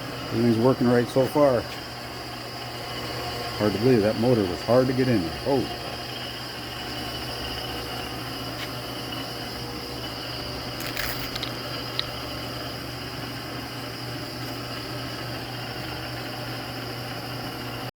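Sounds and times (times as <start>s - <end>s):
electric motors humming: 0.0s - 17.9s.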